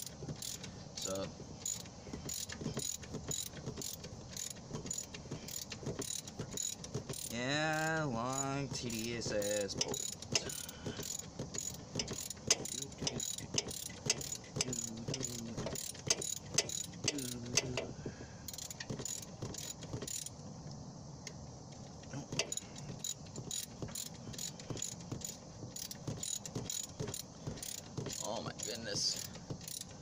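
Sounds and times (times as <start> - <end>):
ratchet wrench clicking: 0.0 - 17.9, 18.5 - 20.4, 22.4 - 30.0.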